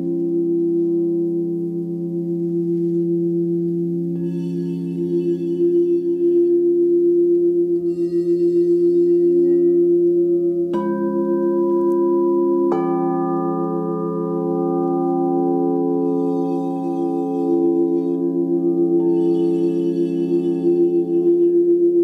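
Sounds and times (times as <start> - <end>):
crystal singing bowls ringing: 0.0 - 22.0
wand striking singing bowl: 1.8 - 22.0.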